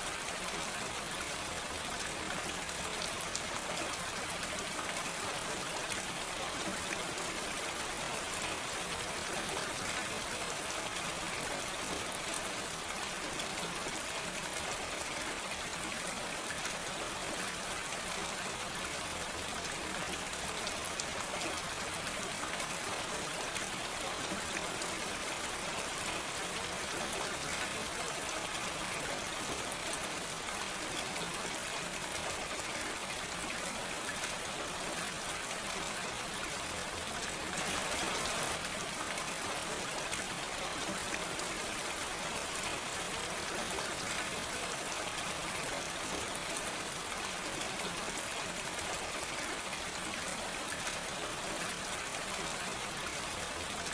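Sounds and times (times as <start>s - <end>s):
gentle rain: 0.0s - 53.9s.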